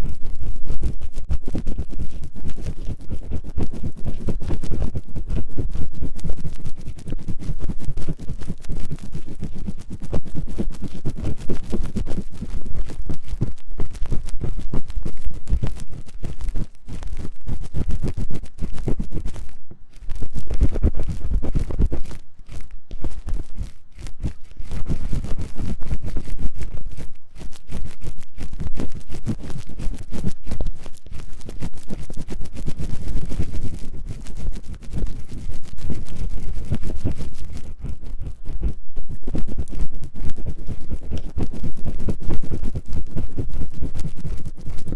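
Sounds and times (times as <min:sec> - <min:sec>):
tool scratching inside microphone ear: 0:00.0 - 0:44.9.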